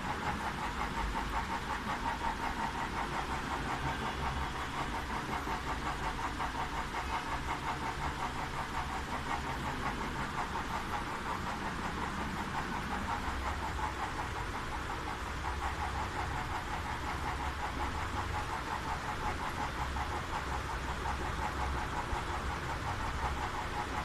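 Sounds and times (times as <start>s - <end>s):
machine engine pulsing steadily: 0.0s - 24.0s.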